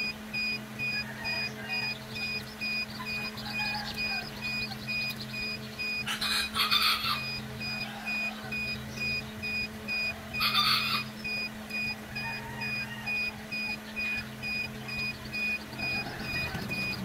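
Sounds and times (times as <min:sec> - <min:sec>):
chicks peeping: 0:00.0 - 0:17.0
low steady hum: 0:00.0 - 0:17.0
rapid electronic beeping: 0:00.0 - 0:17.0.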